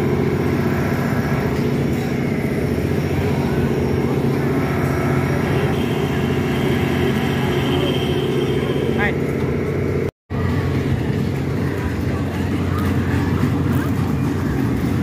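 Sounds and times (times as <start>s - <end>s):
fairground machinery droning: 0.0s - 15.0s.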